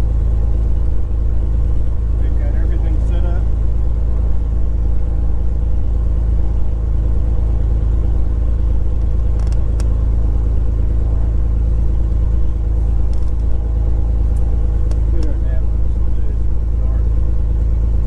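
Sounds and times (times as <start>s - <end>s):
aircraft engine droning: 0.0s - 18.0s.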